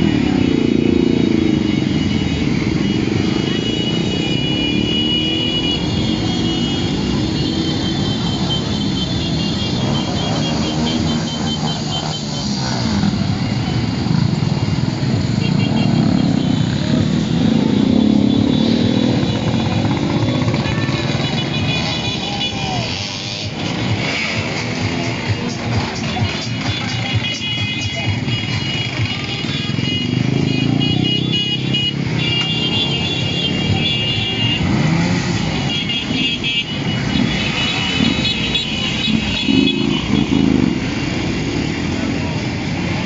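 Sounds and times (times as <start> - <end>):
motorcycle engine revving: 0.0 - 43.0
motorcycle engines passing: 0.0 - 43.0.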